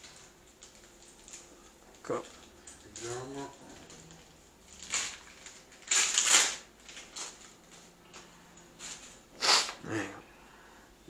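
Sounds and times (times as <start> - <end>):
wrapping paper tearing and rustling: 0.0 - 9.8.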